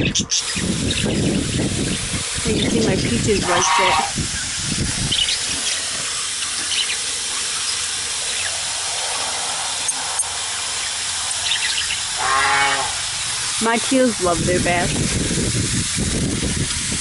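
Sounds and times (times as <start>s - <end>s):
water mister spraying hiss: 0.1s - 17.0s.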